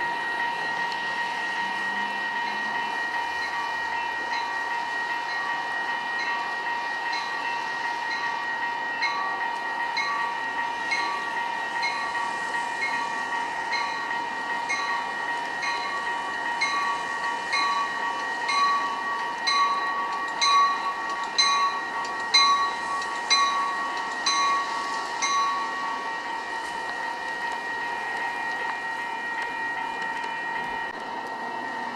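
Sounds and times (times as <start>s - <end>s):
railroad bell ringing: 0.0s - 31.9s.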